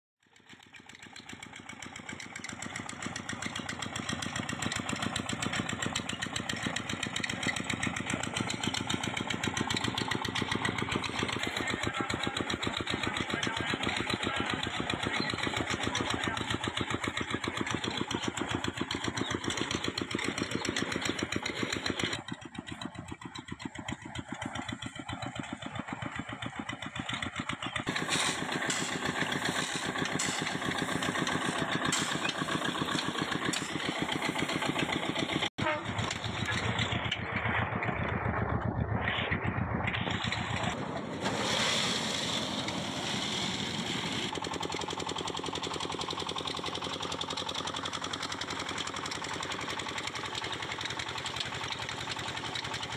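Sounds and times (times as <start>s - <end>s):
engine running steadily: 0.3s - 52.9s.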